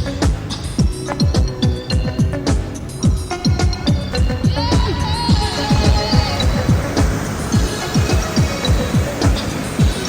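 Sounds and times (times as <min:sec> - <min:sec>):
electronic dance music: 0:00.0 - 0:10.0
wavering synth melody: 0:00.0 - 0:10.0.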